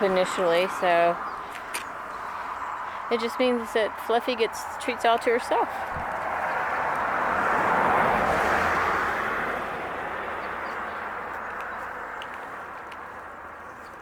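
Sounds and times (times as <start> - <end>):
passing vehicle engine and tyres: 0.0 - 14.0.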